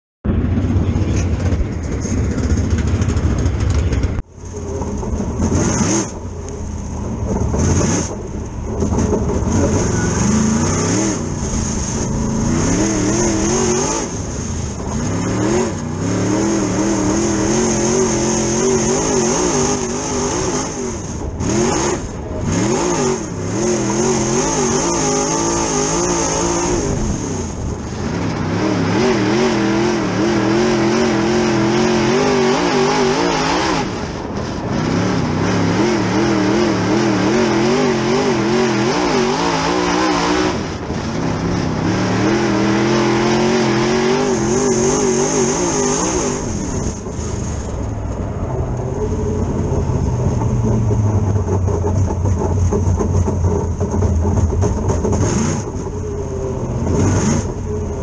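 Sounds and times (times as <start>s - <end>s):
deep low engine rumble: 0.2s - 58.0s
high whine: 0.2s - 58.0s
race car engine revving: 0.3s - 58.0s.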